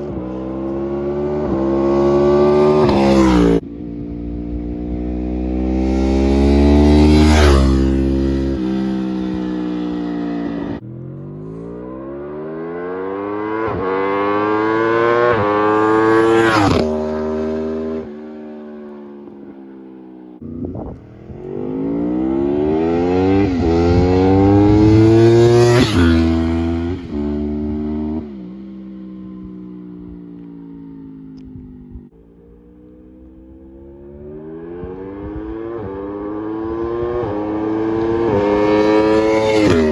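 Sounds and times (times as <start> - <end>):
motorbike accelerating hard: 0.0 - 30.3, 31.0 - 39.9.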